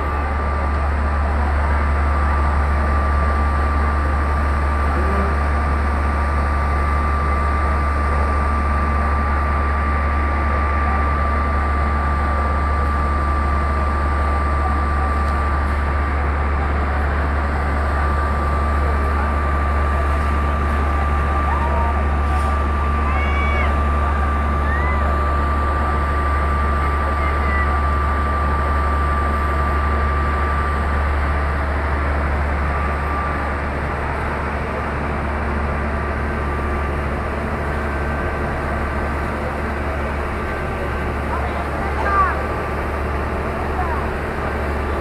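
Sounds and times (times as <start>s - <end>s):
truck engines rumbling: 0.0s - 45.0s.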